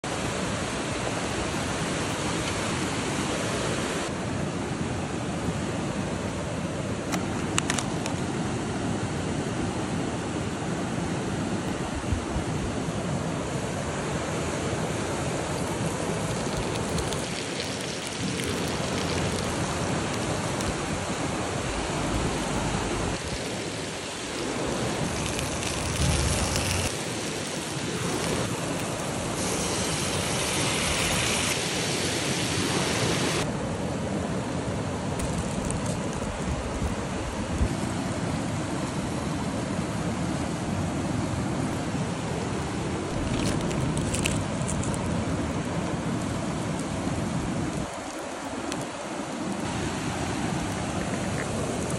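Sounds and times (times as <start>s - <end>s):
stream running over rocks: 0.0s - 33.6s, 34.7s - 51.9s.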